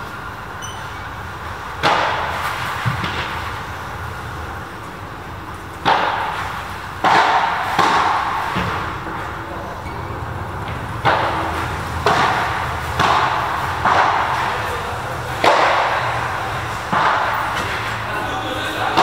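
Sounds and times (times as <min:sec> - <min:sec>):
ball struck by rackets: 0:01.8 - 0:18.0.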